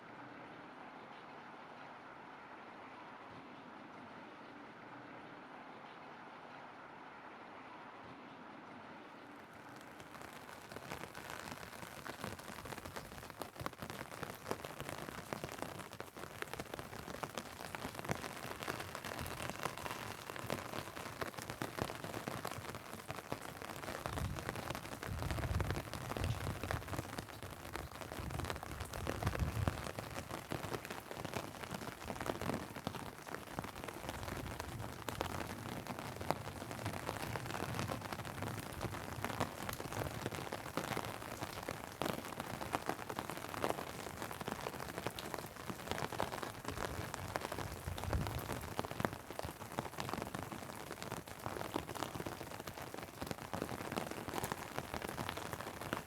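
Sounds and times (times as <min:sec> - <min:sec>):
rain on umbrella and pavement: 0:09.4 - 0:56.0.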